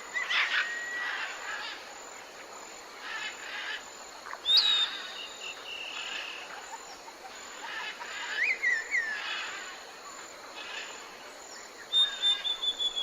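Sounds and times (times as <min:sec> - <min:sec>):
background hiss: 0:00.0 - 0:13.0
songbirds calling: 0:00.0 - 0:13.0.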